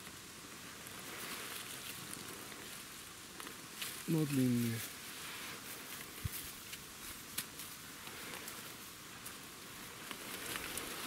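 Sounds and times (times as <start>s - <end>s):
rustling in leaf litter: 0.0s - 11.0s
small clicks and crackles: 0.0s - 11.0s.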